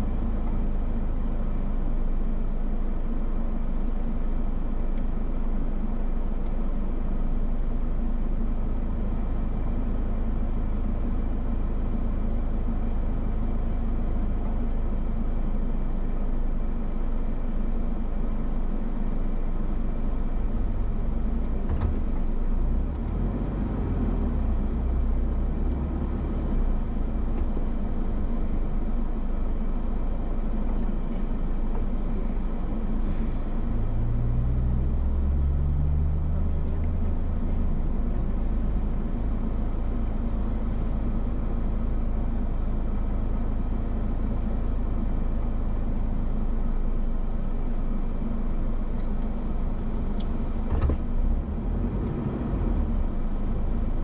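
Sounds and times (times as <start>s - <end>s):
road rumble: 0.0s - 54.0s
vehicle engine running: 0.0s - 54.0s.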